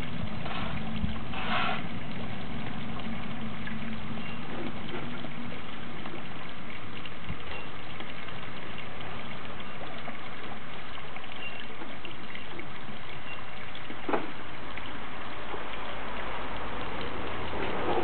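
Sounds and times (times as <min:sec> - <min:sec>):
water trickling in a pond: 0:00.0 - 0:18.0.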